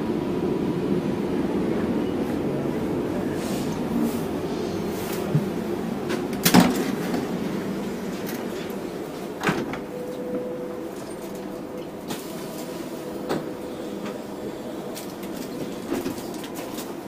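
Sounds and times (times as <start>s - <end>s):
train carriage hum: 0.0s - 17.0s.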